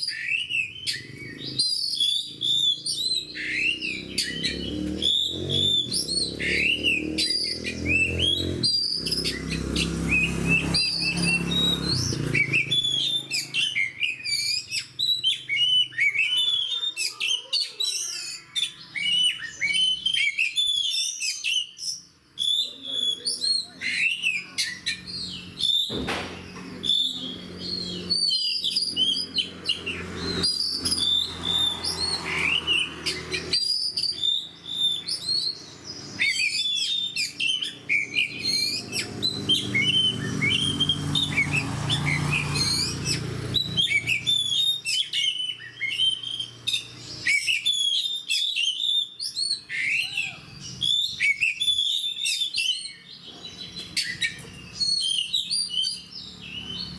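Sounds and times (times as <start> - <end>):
bird singing whistled trills: 0.0 - 56.9.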